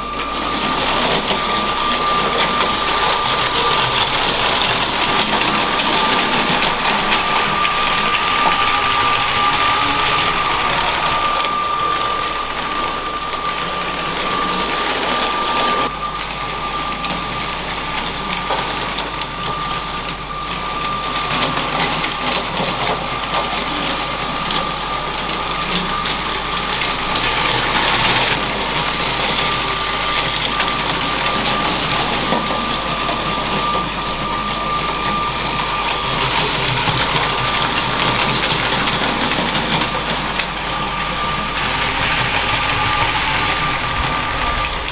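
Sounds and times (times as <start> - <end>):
toy train motor whining: 0.0 - 44.9
wheels rattling on plastic track: 0.0 - 44.9.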